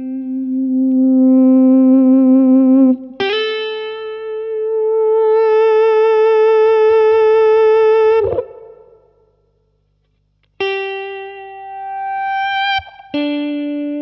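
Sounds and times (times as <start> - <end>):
electric guitar feedback notes: 0.0 - 9.2, 10.6 - 14.0.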